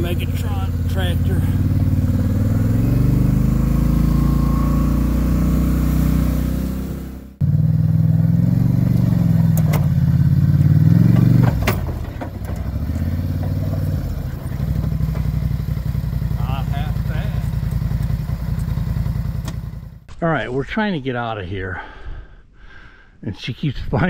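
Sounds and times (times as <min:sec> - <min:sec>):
vehicle engine changing speed: 0:00.0 - 0:20.1.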